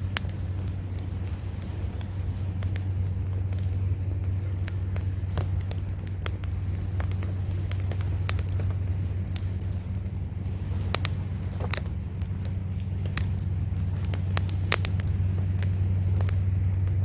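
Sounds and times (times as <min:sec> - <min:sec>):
campfire crackling: 0:00.0 - 0:17.0
low rumble of surf: 0:00.0 - 0:17.0.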